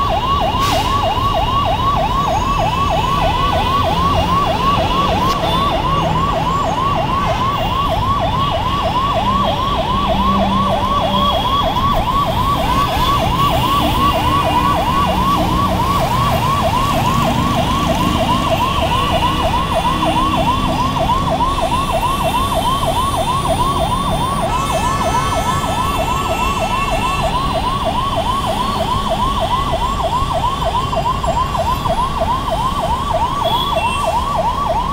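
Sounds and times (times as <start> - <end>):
ambulance siren yelping: 0.0 - 34.9
heavy road traffic rumble: 0.0 - 34.9.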